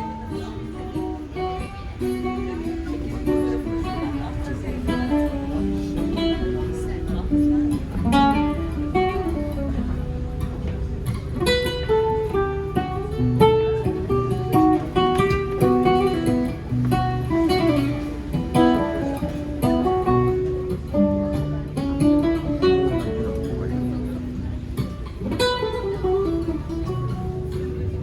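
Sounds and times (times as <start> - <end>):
acoustic guitar playing: 0.0 - 28.0.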